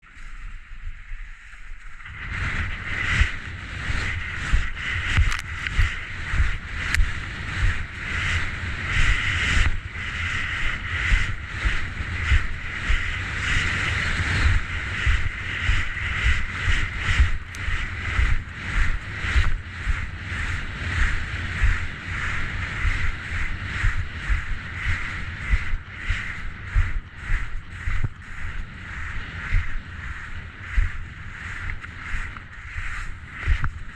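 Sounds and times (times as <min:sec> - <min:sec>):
skis scraping on snow: 0:00.0 - 0:33.9
wind buffeting microphone: 0:00.0 - 0:33.9.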